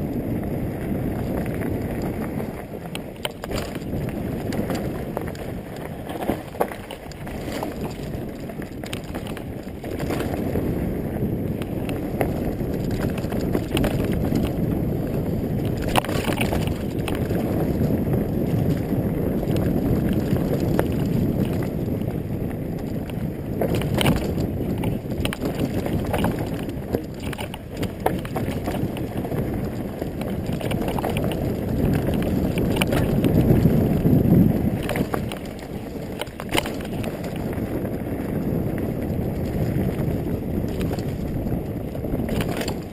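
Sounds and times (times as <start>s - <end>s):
tyres rolling over dirt trail: 0.0s - 42.9s
wind rumbling on microphone: 0.0s - 42.9s
bike knocks and rattles: 0.8s - 42.9s.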